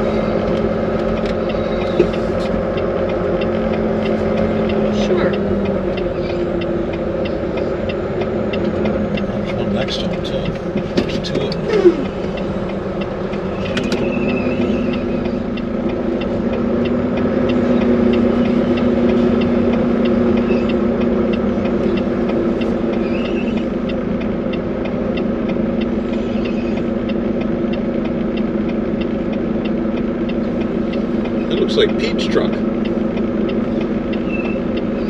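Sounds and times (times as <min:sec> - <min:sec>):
diesel truck engine running: 0:00.0 - 0:35.0
light regular ticking: 0:00.0 - 0:35.0.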